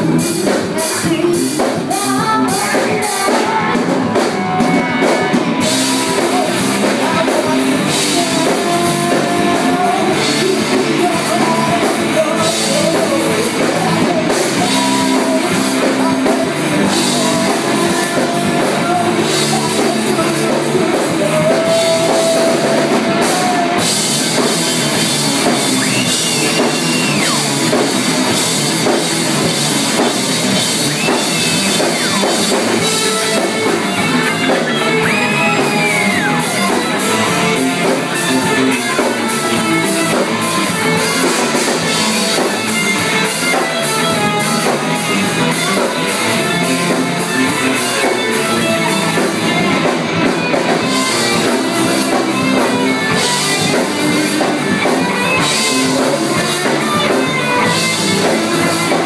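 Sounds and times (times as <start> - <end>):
lead singer singing: 0.0 - 59.0
live rock band playing: 0.0 - 59.0.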